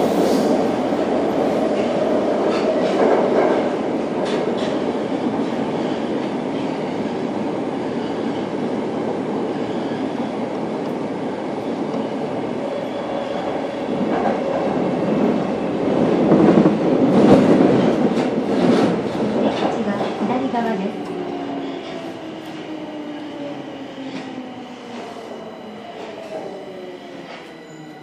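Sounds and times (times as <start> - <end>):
wheels rumbling on rail: 0.0 - 25.2.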